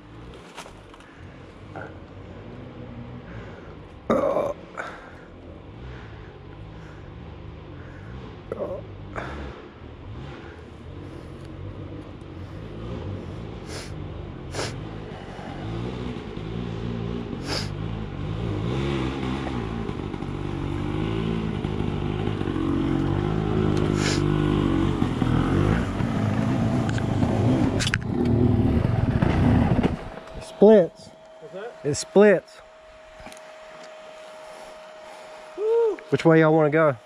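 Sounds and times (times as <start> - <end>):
off-road motorcycle engine revving: 0.0 - 37.0.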